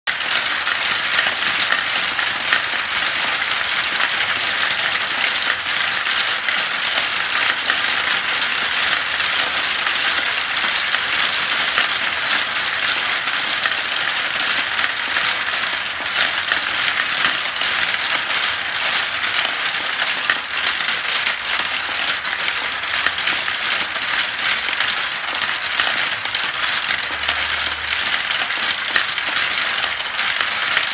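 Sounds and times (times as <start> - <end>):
marbles rattling through marble run: 0.1 - 30.9.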